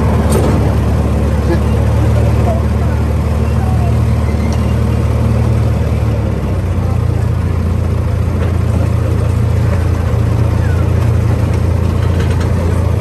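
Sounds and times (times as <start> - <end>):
miniature train running on track: 0.0 - 13.0.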